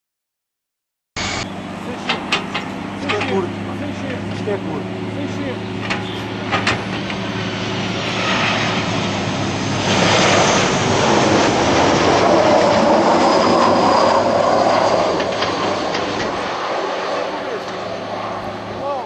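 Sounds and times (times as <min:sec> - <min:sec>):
jet airliner engines passing low: 0:01.2 - 0:19.0.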